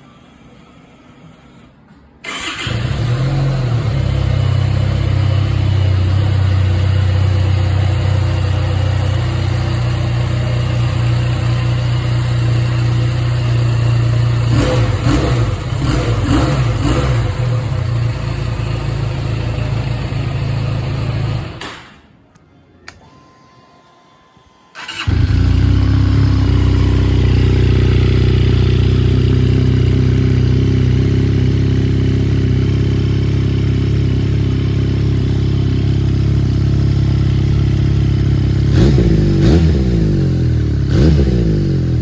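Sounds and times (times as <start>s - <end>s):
motorcycle engine idling: 2.3s - 21.6s, 24.8s - 42.0s.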